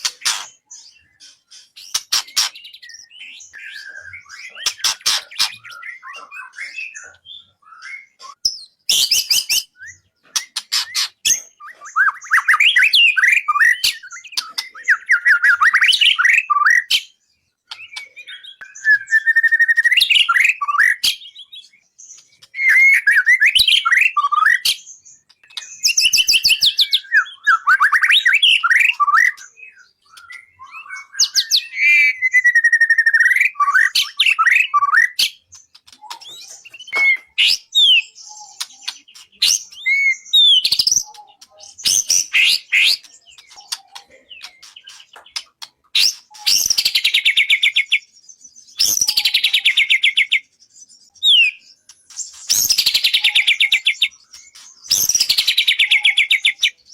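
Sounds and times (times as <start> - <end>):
songbird song with trills: 0.0 - 56.9.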